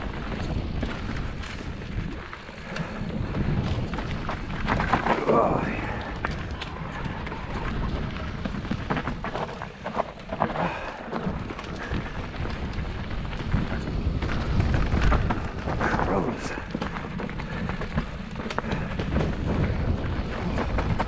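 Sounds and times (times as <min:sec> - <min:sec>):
bike rattling and knocking: 0:00.0 - 0:21.0
bike tyres rumbling over dirt: 0:00.0 - 0:21.0
wind on microphone: 0:00.0 - 0:21.0.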